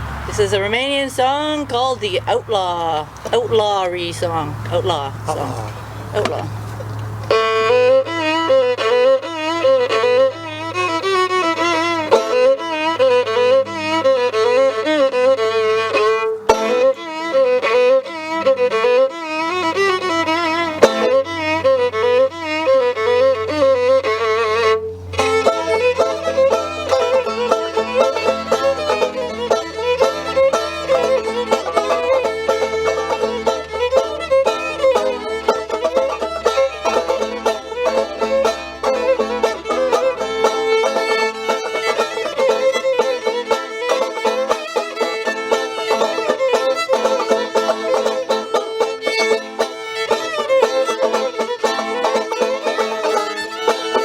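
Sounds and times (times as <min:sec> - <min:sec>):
fiddle playing ornamented melody: 0:00.0 - 0:54.0
plucked string instrument: 0:00.0 - 0:54.0.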